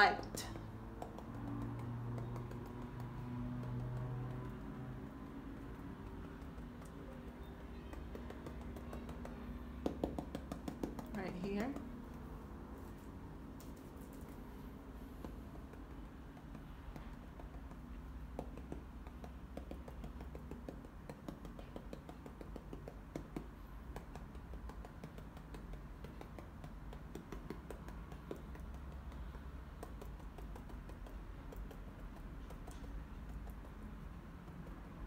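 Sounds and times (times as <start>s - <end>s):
paint dauber tapping on canvas: 0.0s - 12.6s, 13.6s - 35.0s
low background hum: 0.0s - 35.0s.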